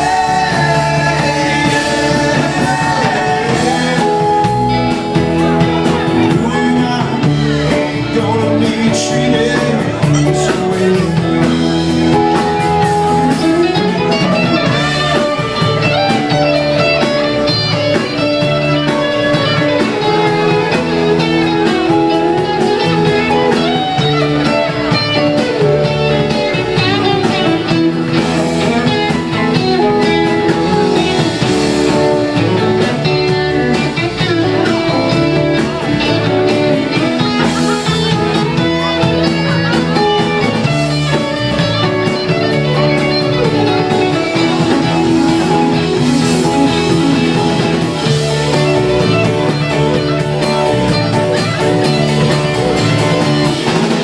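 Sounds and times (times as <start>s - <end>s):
rock band playing instrumental: 0.0s - 54.0s.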